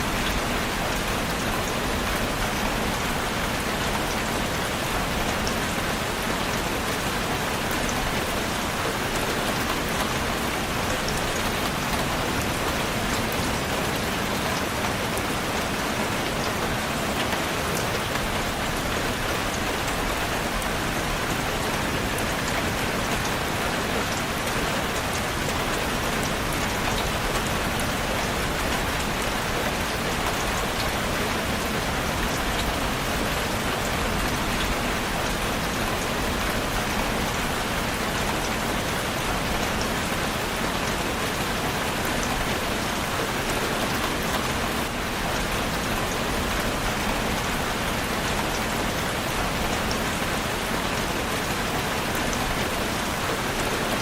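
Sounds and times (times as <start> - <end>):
heavy rain patter: 0.0 - 54.0.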